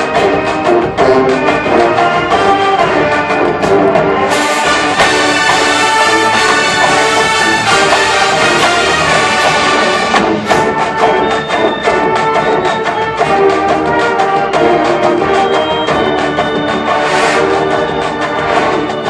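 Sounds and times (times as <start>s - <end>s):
brass instruments playing: 0.0s - 19.0s
drumline beat: 0.0s - 19.0s.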